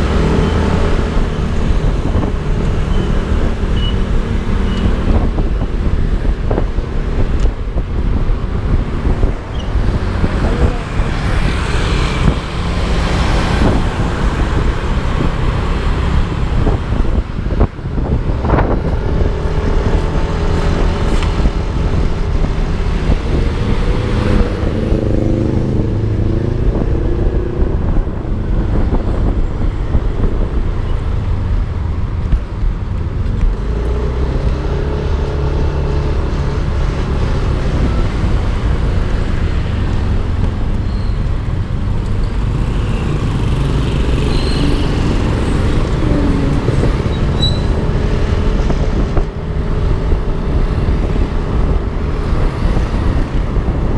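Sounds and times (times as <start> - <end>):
road noise: 0.0 - 53.9
wind rumble on microphone: 0.0 - 53.9.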